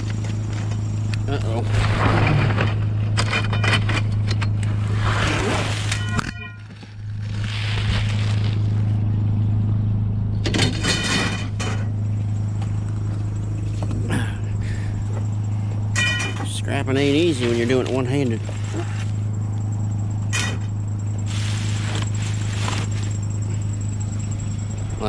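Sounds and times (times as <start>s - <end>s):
scrap metal clanking and scraping: 0.0s - 8.9s, 10.4s - 24.9s
steady low hum: 0.0s - 25.0s.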